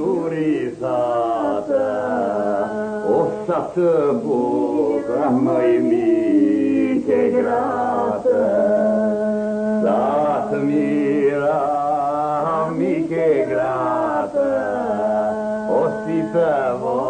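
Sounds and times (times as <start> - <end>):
voices singing chant-like song: 0.0 - 17.0.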